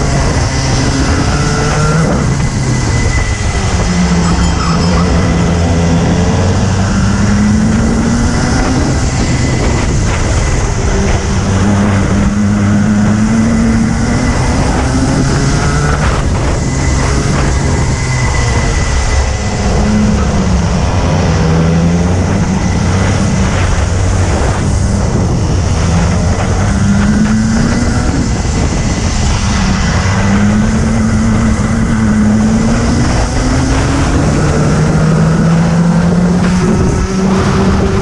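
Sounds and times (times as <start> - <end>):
racing kart engine accelerating: 0.0 - 38.0.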